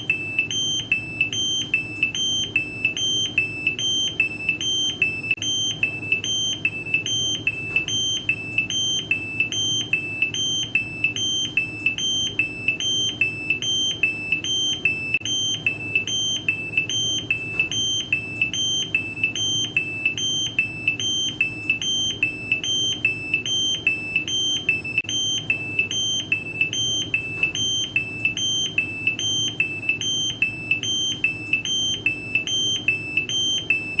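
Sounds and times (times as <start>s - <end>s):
two-tone electronic alarm beeps: 0.0s - 34.0s.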